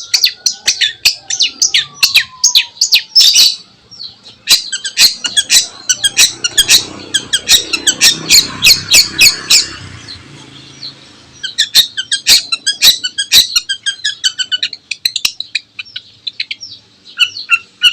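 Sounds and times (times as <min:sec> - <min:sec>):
shrike harsh chirps and squawks: 0:00.0 - 0:17.9.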